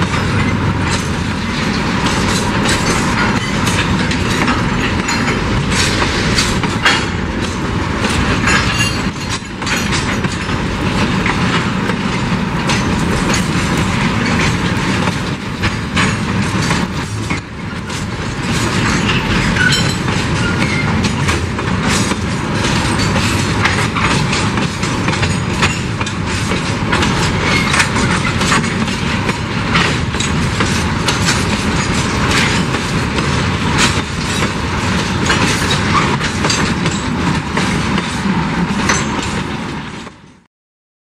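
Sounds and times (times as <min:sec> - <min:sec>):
wheels clacking over rail joints: 0:00.0 - 0:40.2
freight train rolling past: 0:00.0 - 0:40.5.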